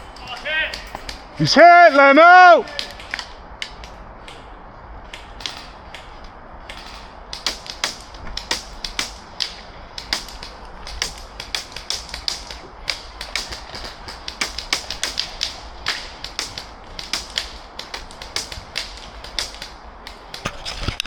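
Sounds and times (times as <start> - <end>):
airsoft guns firing: 0.0 - 4.6, 5.2 - 20.5.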